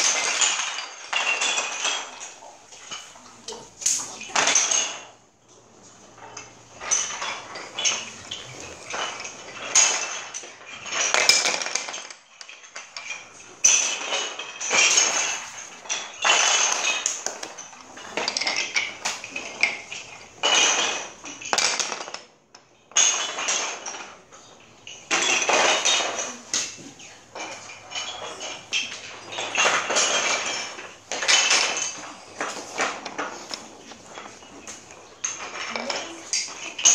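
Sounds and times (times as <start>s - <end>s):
wooden sticks clattering on floor: 0.0s - 36.9s.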